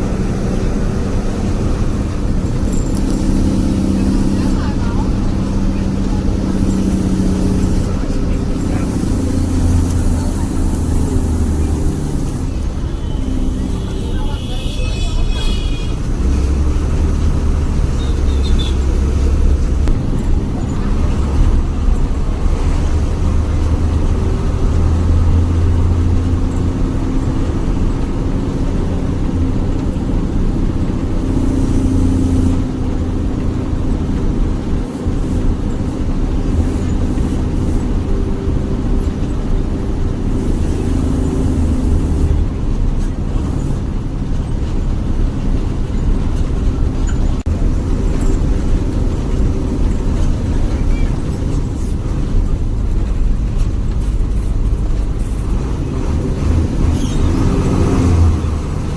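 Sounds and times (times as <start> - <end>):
bus diesel engine growling: 0.0 - 58.9.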